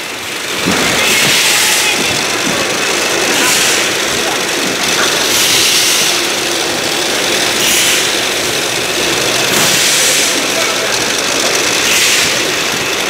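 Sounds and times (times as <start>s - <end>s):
conveyor line running: 0.0s - 13.0s.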